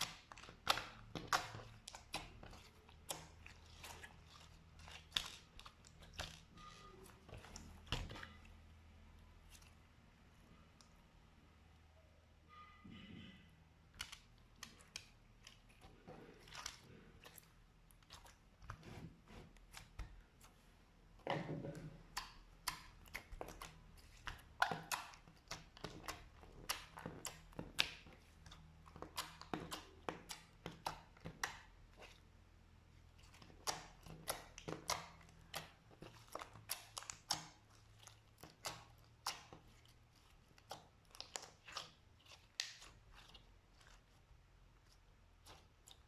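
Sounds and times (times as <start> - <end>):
slime squished by hand: 0.0 - 8.7, 13.9 - 32.3, 33.1 - 46.0.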